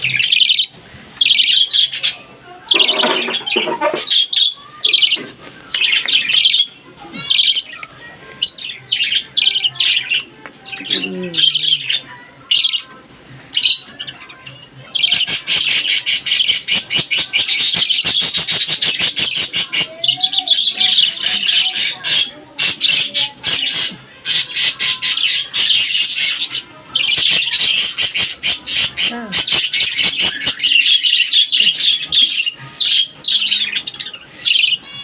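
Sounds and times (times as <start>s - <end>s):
budgerigars chirping and warbling: 0.0s - 35.0s.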